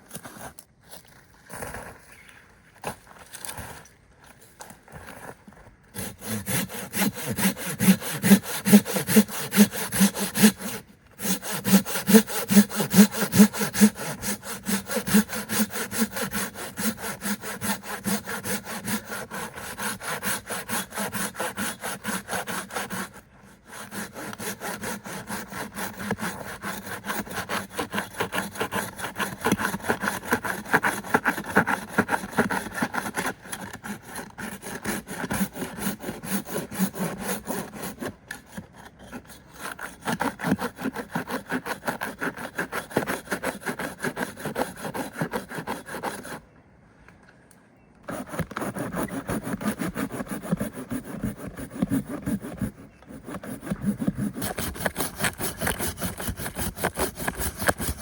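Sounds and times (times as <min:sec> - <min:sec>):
hand saw cutting wood: 0:06.0 - 0:46.4, 0:48.1 - 0:58.0.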